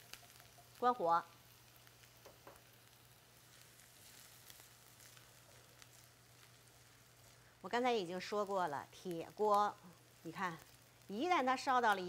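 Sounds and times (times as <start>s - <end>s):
faint sizzle in skillet: 0.0s - 12.0s.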